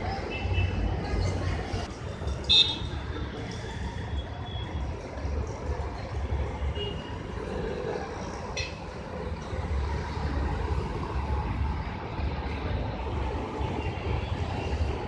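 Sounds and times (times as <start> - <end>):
traffic passing: 0.0 - 15.0.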